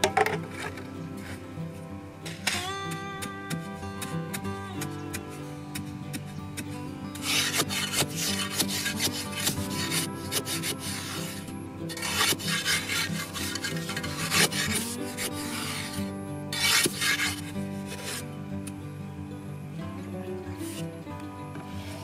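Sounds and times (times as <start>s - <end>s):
metal bar scraping into soil: 0.0s - 2.7s, 3.5s - 18.5s, 20.6s - 22.0s
background music: 0.0s - 22.0s.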